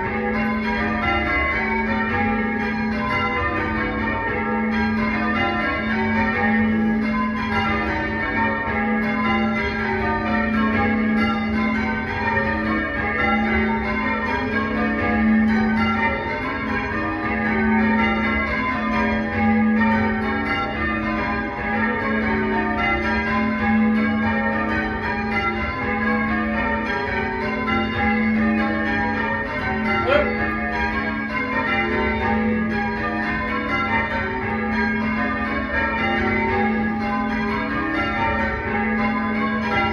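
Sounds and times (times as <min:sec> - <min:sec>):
tower bells ringing: 0:00.0 - 0:39.9.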